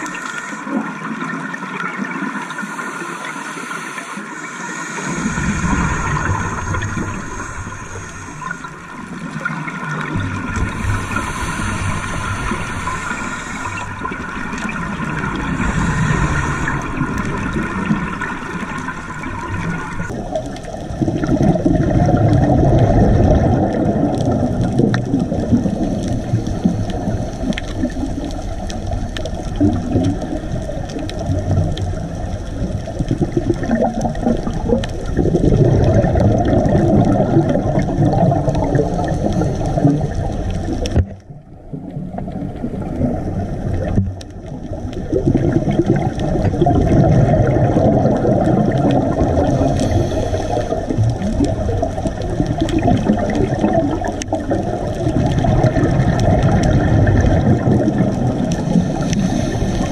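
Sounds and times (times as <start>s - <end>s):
underwater bubbling and gurgling: 0.0s - 59.9s.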